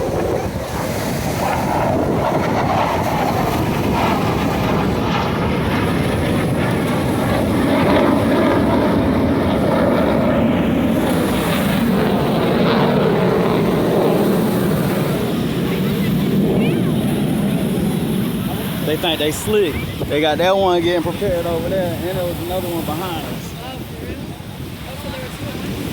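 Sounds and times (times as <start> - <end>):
airplane engine roar: 0.0 - 25.9.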